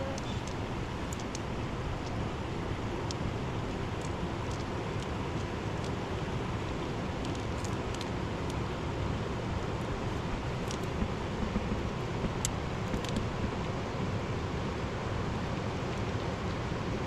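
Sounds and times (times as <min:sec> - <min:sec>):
mountain river rushing: 0:00.0 - 0:17.0.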